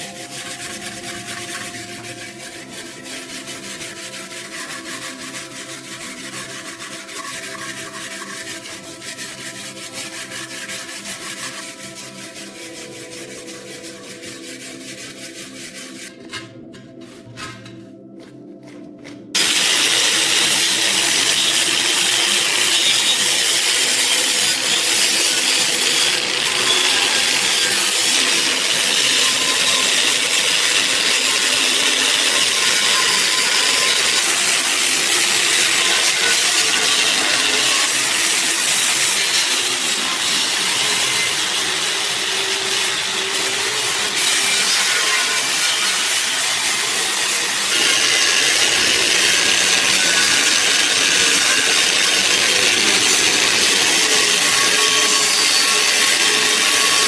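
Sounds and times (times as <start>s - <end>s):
power tool grinding metal: 0.0s - 16.2s, 19.4s - 57.0s.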